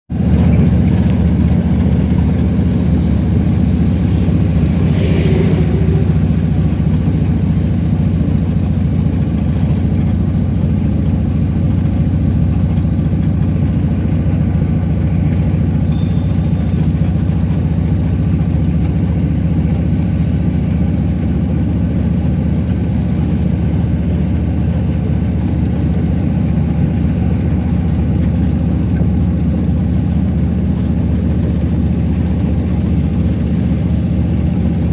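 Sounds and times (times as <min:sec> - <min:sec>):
car engine and road noise: 0:00.1 - 0:34.9.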